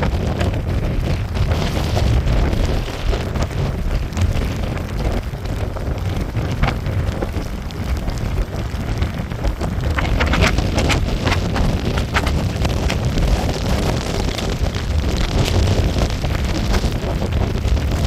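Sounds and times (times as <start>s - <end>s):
sharp crackles: 0.0s - 18.0s
strong wind buffeting microphone: 0.0s - 18.0s
wind-driven rain: 0.0s - 18.0s.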